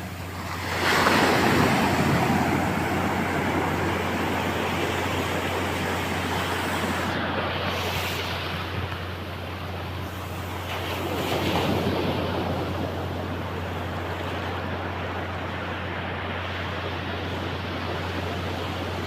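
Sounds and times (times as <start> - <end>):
sea surf washing in: 0.0 - 19.0
steady low rumble: 0.0 - 19.0.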